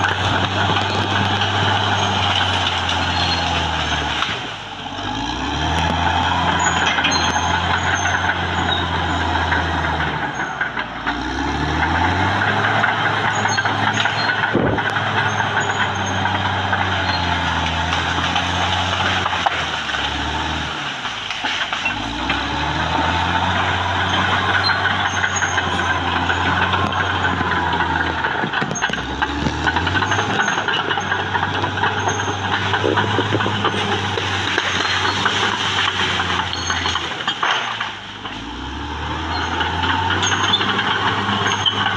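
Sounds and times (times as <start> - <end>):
bulldozer diesel engine under load: 0.0 - 41.9.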